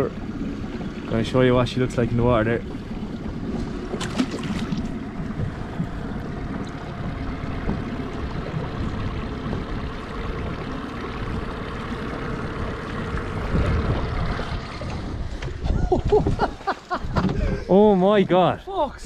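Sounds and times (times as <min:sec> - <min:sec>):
boat motor humming: 0:00.0 - 0:19.0
water rushing along hull: 0:00.0 - 0:19.0.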